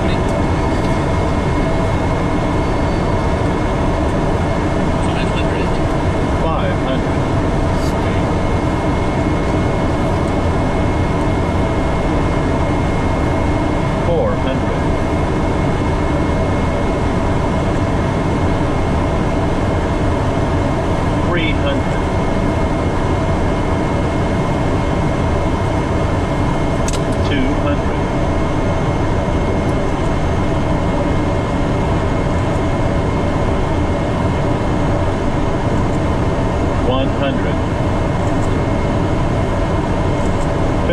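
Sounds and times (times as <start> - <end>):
airflow and engine rush: 0.0 - 40.9
constant low hum: 0.0 - 40.9
faint steady whine: 0.0 - 40.9.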